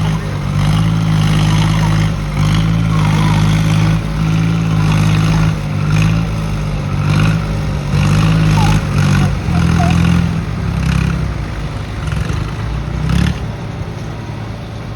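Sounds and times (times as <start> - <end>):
tractor diesel engines under load: 0.0 - 14.9.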